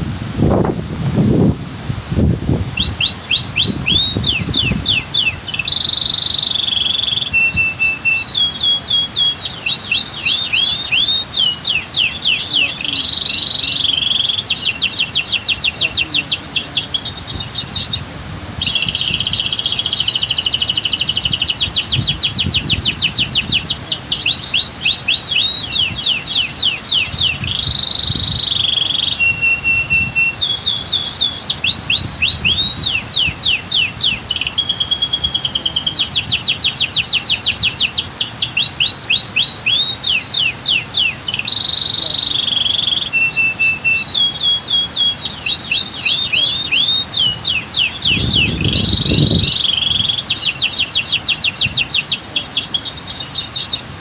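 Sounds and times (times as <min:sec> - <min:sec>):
rushing water: 0:00.0 - 0:54.0
canary singing: 0:02.7 - 0:53.9.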